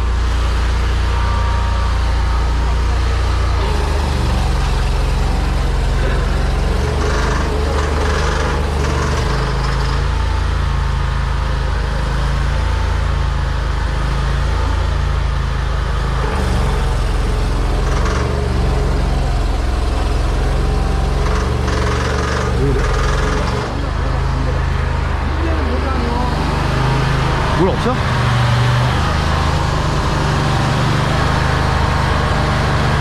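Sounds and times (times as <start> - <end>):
sewer jetting machine engine: 0.0 - 33.0.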